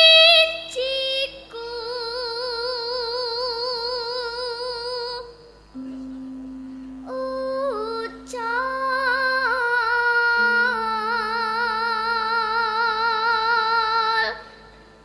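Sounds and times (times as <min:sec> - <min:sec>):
low accompanying tone: 0:01.5 - 0:15.0.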